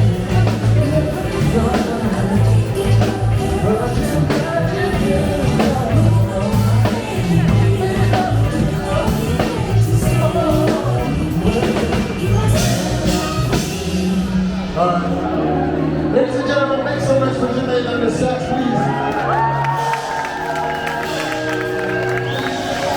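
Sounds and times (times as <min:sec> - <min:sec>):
drum kit: 0:00.0 - 0:15.1, 0:19.6 - 0:22.9
bass line: 0:00.0 - 0:22.9
lead melody line: 0:00.0 - 0:22.9.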